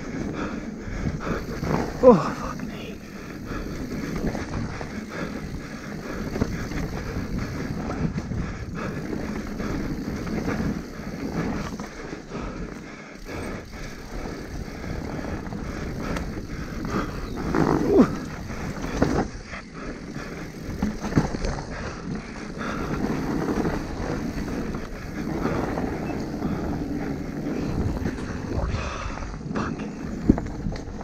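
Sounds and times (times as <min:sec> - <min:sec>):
bike knocking and rattling: 0:00.0 - 0:31.0
bike tyres on dirt: 0:00.0 - 0:31.0.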